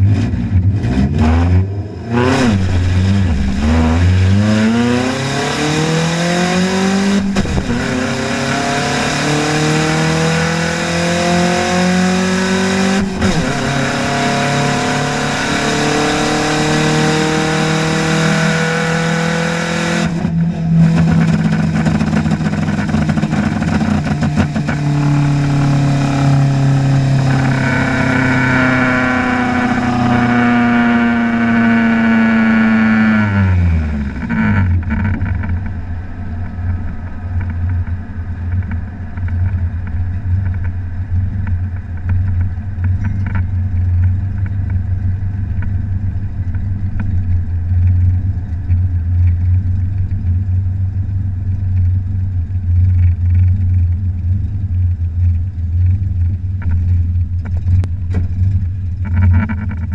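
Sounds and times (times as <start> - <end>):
drag car engine: 0.0 - 59.9.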